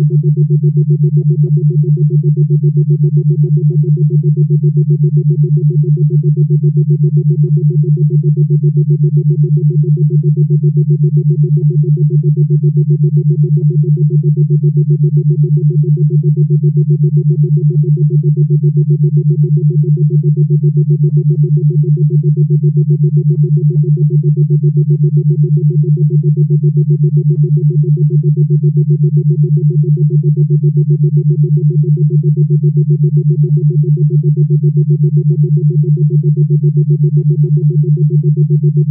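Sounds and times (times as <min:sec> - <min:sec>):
pulsing synthesizer drone: 0:00.0 - 0:38.9.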